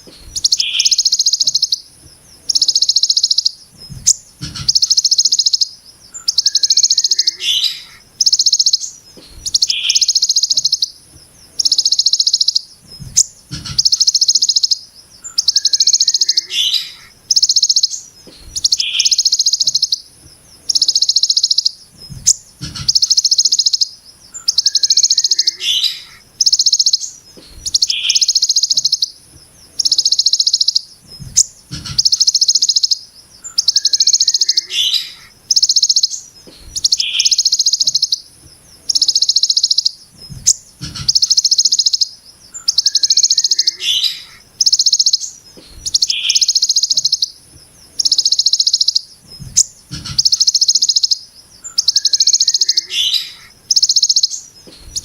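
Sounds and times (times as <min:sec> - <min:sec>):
bird buzzing call: 0:00.0 - 0:55.0.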